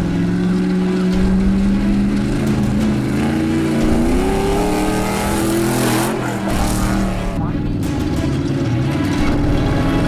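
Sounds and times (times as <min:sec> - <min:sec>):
race vehicle engine running: 0:00.0 - 0:10.0.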